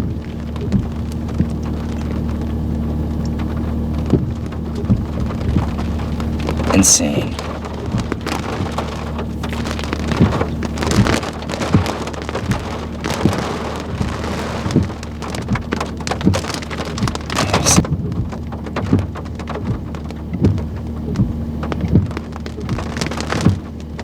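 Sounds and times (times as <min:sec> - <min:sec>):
raindrops hitting hard surface: 0:00.0 - 0:24.0.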